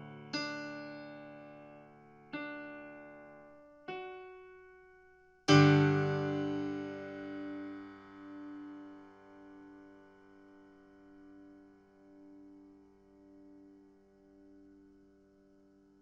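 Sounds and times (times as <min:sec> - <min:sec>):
piano notes and chords: 0:00.0 - 0:16.0.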